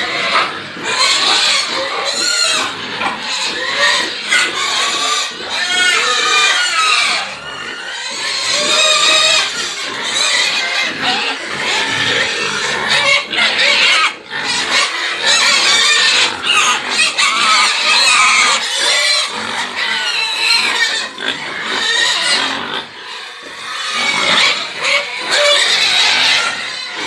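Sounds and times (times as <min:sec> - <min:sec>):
young pigs squealing: 0:00.0 - 0:27.0.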